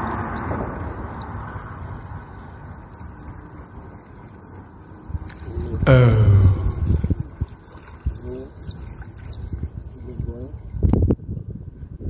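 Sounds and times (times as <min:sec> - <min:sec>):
faint high-pitched chirps: 0:00.0 - 0:10.6.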